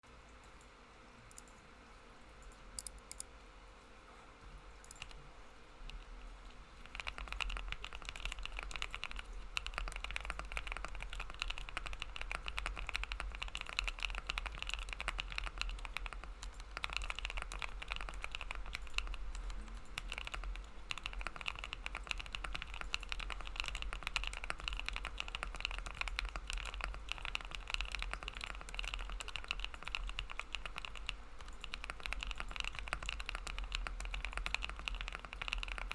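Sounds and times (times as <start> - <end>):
fast mechanical keyboard typing: 1.3 - 1.6, 2.4 - 3.2, 4.8 - 35.9.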